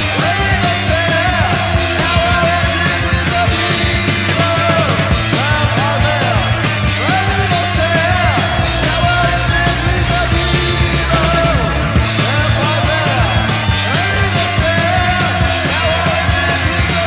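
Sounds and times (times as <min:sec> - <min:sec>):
speed metal music: 0:00.0 - 0:17.0.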